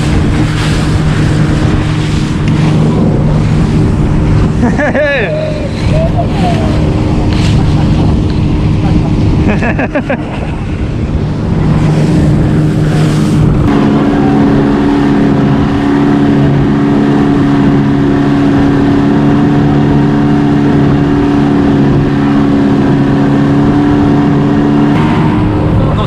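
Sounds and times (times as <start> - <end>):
outboard motor running hard: 0.0 - 26.0.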